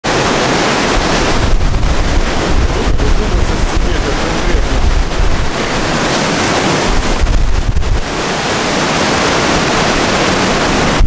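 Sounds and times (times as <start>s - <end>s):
strong wind gusting: 0.0s - 11.0s
wind buffeting microphone: 0.0s - 11.0s.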